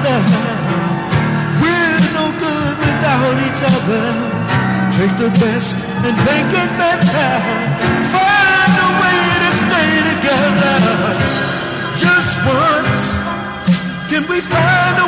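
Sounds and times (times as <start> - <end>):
pop song with singer and band: 0.0 - 15.0.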